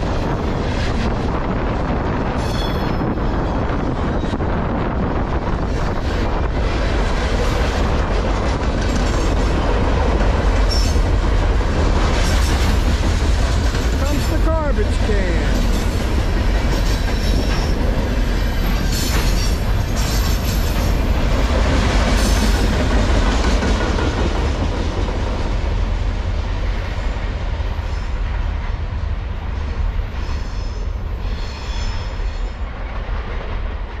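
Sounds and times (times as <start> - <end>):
train wheels rumbling over rails: 0.0 - 34.0.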